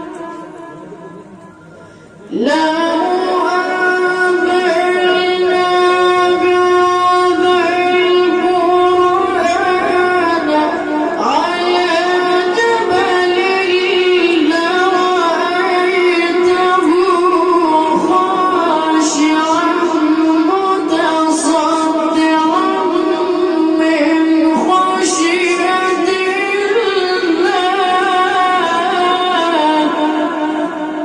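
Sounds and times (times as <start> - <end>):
child chanting melodically: 2.3 - 30.8.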